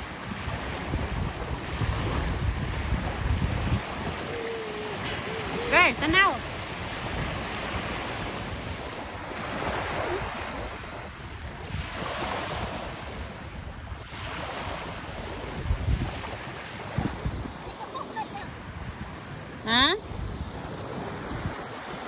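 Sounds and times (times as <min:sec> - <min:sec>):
small waves washing ashore: 0:00.0 - 0:22.0
wind buffeting microphone: 0:00.0 - 0:22.0.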